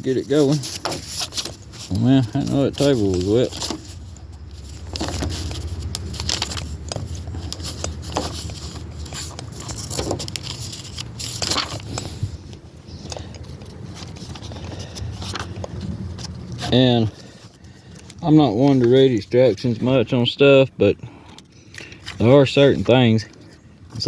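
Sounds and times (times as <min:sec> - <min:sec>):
paper rustling: 0:00.0 - 0:20.2.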